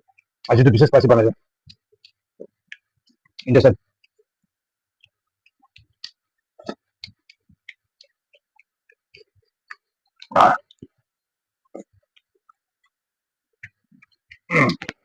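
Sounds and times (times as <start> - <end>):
person chewing wetly: 0.0 - 0.6, 1.6 - 15.0.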